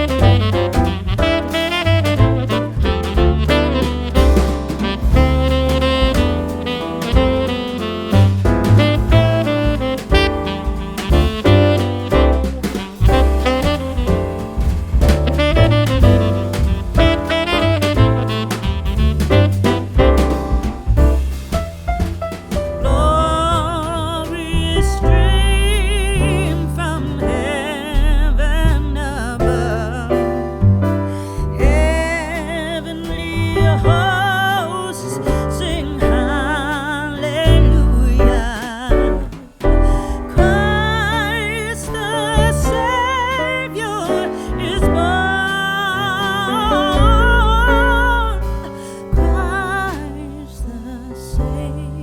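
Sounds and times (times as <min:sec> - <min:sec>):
keyboard and bass accompaniment: 0:00.0 - 0:52.0
piano: 0:00.0 - 0:52.0.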